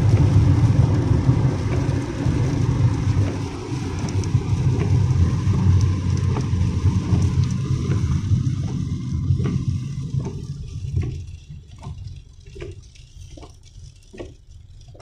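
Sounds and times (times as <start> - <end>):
low engine and road rumble: 0.0 - 15.0
soft regular ticks: 1.2 - 15.0.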